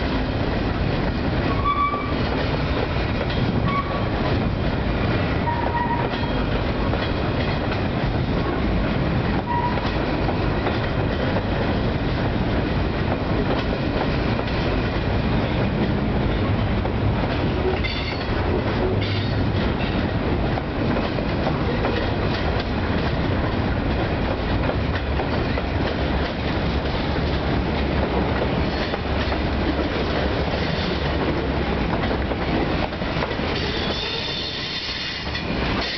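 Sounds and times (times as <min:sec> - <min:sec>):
clickety-clack over rail joints: 0:00.0 - 0:35.9
freight train rolling past: 0:00.0 - 0:35.9.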